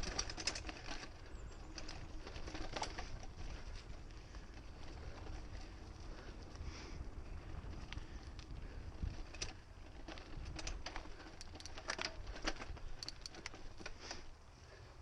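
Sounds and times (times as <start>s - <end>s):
bike clicking and rattling: 0.0s - 15.0s
wind and tyres rumbling: 0.0s - 15.0s.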